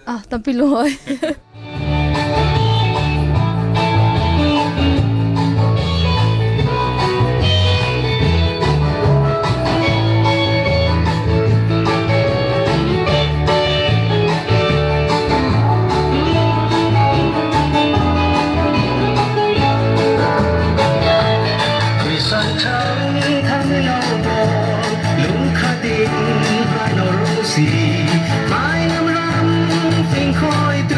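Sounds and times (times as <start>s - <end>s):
guitar: 0.0s - 30.9s
steady bass line: 0.0s - 30.9s.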